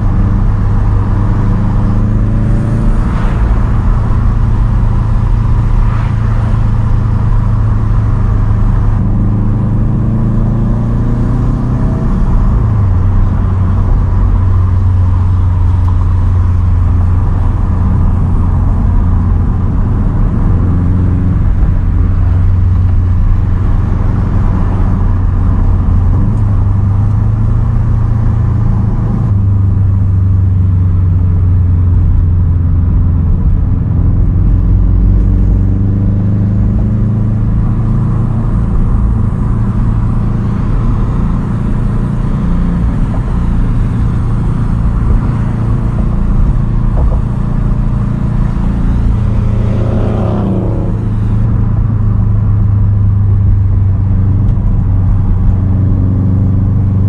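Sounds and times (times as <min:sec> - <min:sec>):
car engine droning under load: 0:00.0 - 0:57.0.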